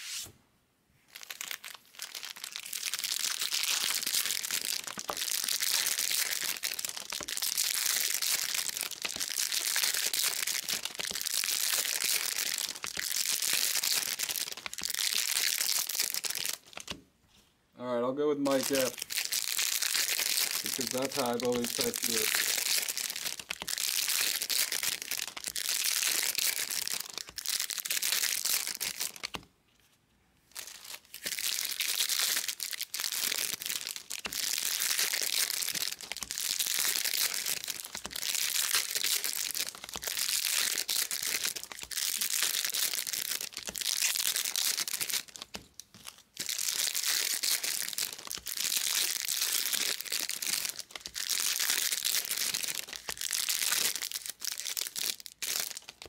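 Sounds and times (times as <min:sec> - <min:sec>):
foil wrappers crinkling and tearing: 0:01.1 - 0:17.0, 0:18.3 - 0:29.4, 0:30.5 - 0:56.0.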